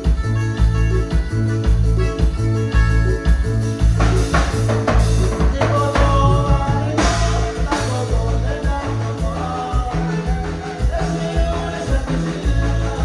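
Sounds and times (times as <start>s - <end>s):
latin band music with singing: 0.0s - 13.0s.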